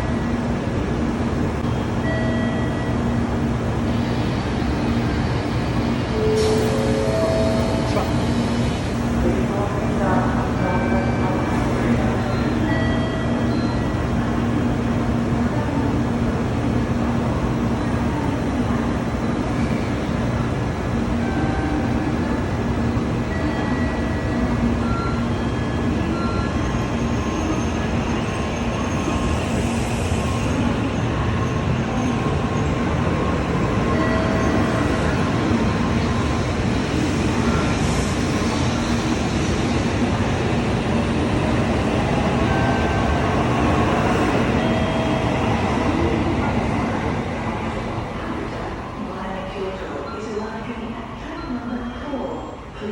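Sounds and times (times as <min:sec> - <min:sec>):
train rumble and rush: 0:00.0 - 0:52.9.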